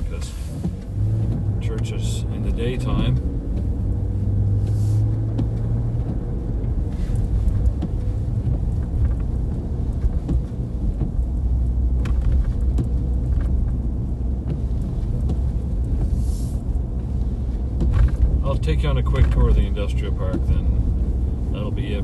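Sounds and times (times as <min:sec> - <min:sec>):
engine and tyre rumble: 0:00.0 - 0:22.0.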